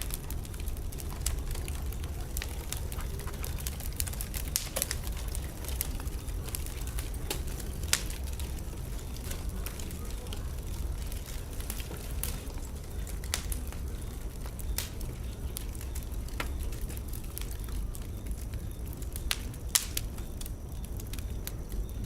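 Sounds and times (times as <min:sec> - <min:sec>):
fire crackling and popping: 0:00.0 - 0:22.0
flames rumbling: 0:00.0 - 0:22.0.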